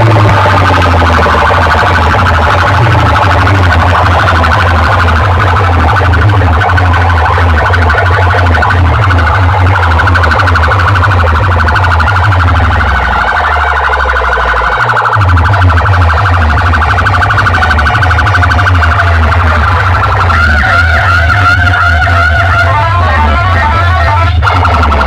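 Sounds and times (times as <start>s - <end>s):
pounding bass: 0.0s - 25.0s
warbling siren-like effect: 0.0s - 25.0s.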